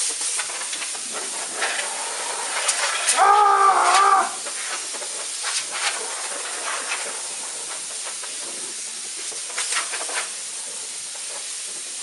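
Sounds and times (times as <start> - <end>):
air hissing from a hose: 0.0 - 12.0
foam bits ticking and rustling: 0.0 - 12.0.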